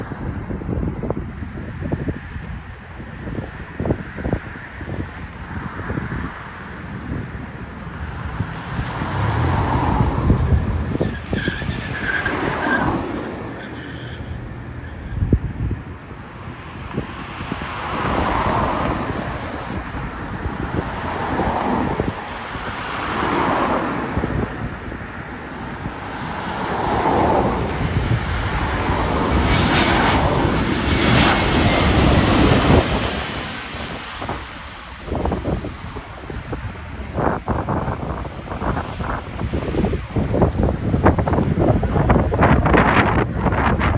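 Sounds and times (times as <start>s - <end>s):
jet engines rumbling: 0.0s - 43.9s
wind buffeting microphone: 0.0s - 43.9s
engine fan whine: 0.2s - 43.9s.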